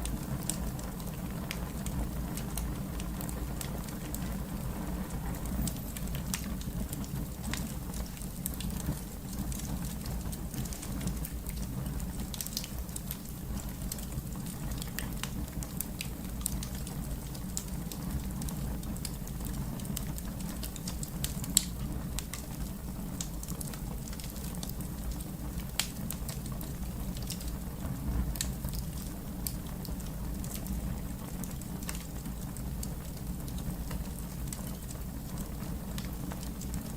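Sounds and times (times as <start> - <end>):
fire pops and snaps: 0.0 - 4.5, 5.1 - 36.9
low rumble of flames: 0.0 - 36.9
wood fire crackling: 0.0 - 36.9.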